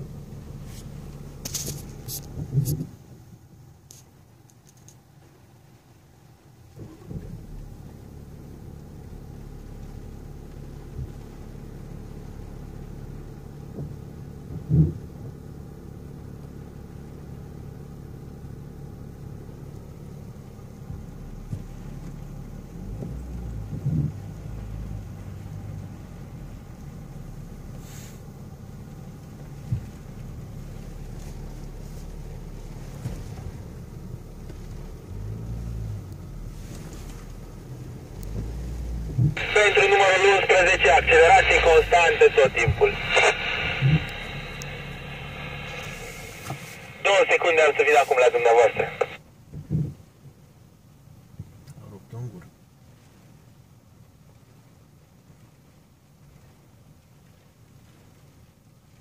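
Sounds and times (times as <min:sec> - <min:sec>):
car engine hum inside cabin: 0:00.0 - 0:59.0.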